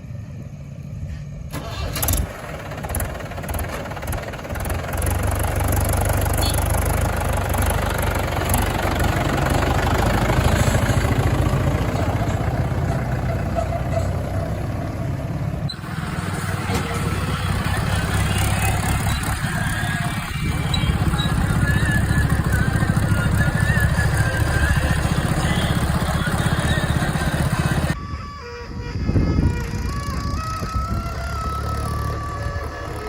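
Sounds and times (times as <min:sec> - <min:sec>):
heavy diesel engines running: 0:00.0 - 0:33.0.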